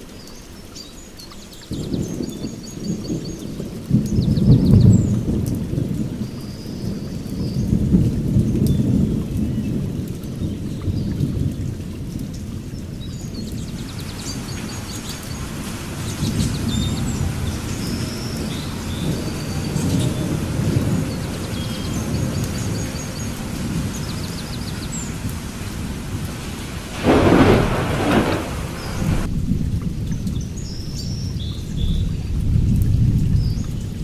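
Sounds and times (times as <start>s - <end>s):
steady rain: 0.0s - 34.0s
thunder rumbling: 1.7s - 30.6s.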